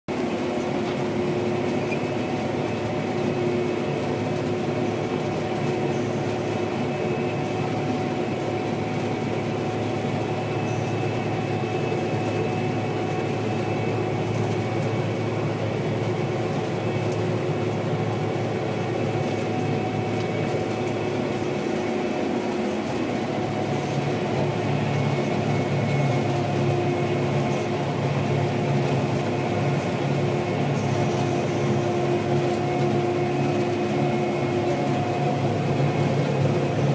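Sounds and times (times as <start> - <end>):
combine harvester drone: 0.1 - 36.9
steady whining tones: 5.6 - 36.9.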